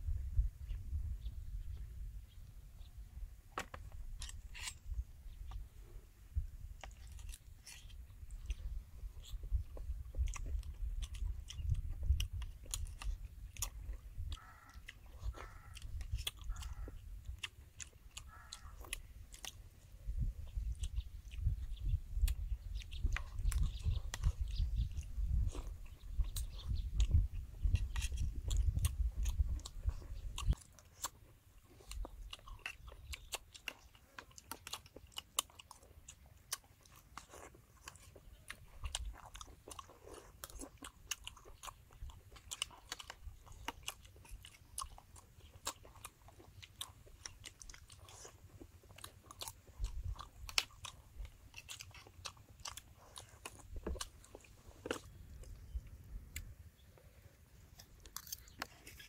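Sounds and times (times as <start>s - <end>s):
wet chewing and crunching: 3.5s - 59.0s.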